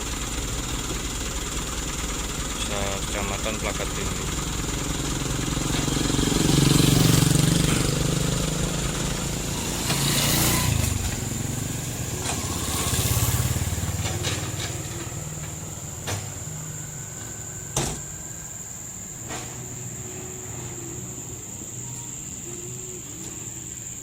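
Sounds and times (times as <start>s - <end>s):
vehicle engines running: 0.0s - 24.0s.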